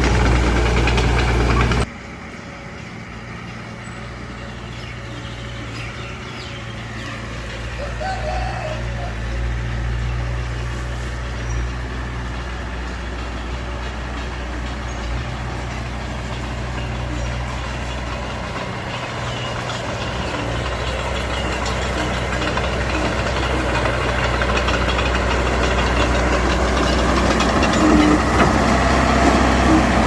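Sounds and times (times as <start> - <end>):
heavy diesel engine humming: 0.0 - 30.0.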